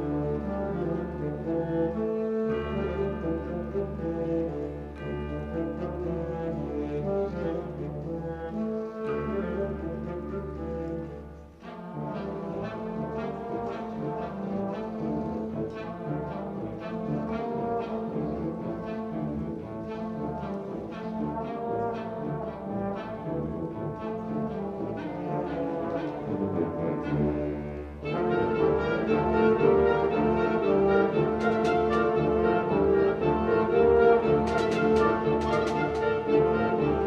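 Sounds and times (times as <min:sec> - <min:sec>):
brass instruments: 0:00.0 - 0:37.0.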